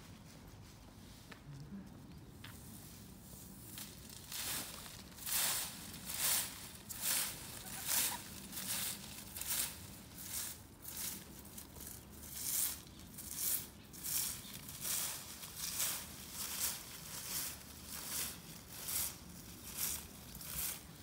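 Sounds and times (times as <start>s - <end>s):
broom sweeping leaves on asphalt: 2.5s - 21.0s.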